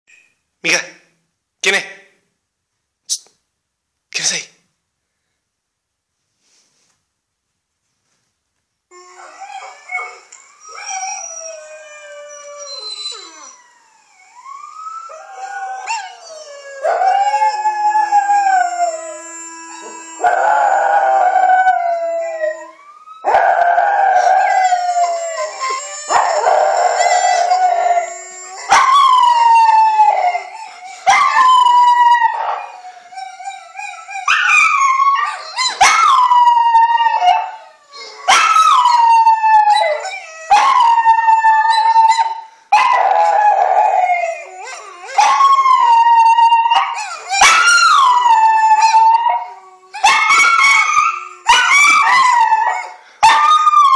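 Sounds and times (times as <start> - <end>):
dog howling: 8.9 - 53.9.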